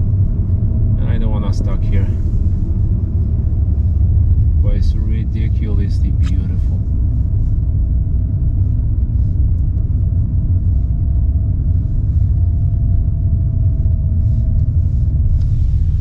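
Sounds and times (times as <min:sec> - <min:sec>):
car engine and tyres rumbling: 0:00.0 - 0:16.0
faint whine: 0:00.0 - 0:16.0.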